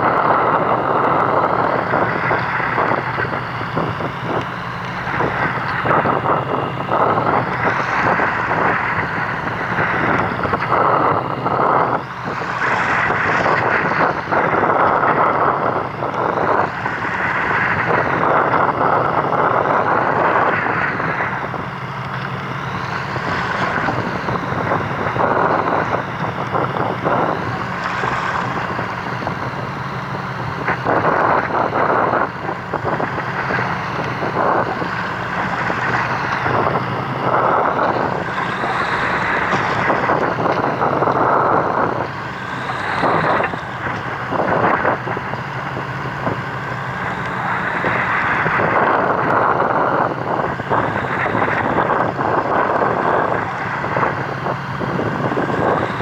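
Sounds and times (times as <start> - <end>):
boat engine running: 0.0 - 56.0
water noise: 0.0 - 56.0
wind buffeting microphone: 0.0 - 56.0.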